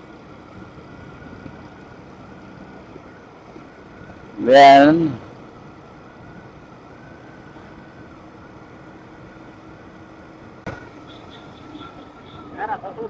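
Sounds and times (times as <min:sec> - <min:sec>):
faint motorcycle engine hum: 0:00.0 - 0:13.0
road and wind noise: 0:00.0 - 0:13.0.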